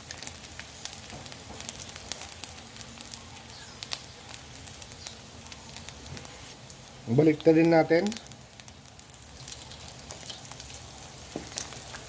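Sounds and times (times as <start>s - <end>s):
fish frying in hot oil: 0.0s - 12.0s
oil popping and crackling: 0.0s - 12.0s.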